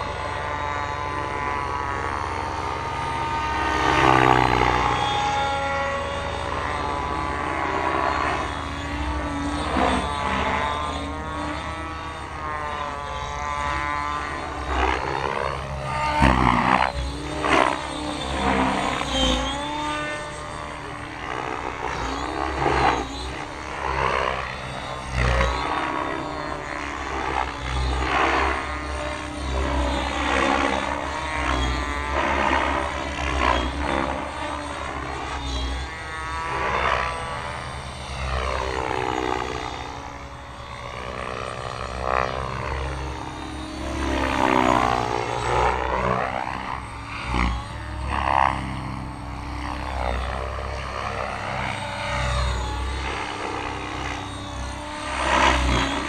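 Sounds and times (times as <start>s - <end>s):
rc helicopter rotor whine: 0.0s - 56.0s.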